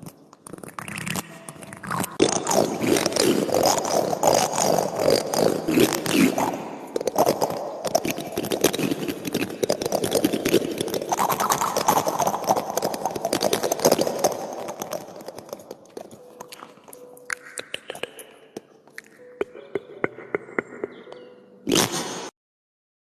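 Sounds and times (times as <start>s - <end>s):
spoon scraping cactus spines: 0.0s - 22.2s.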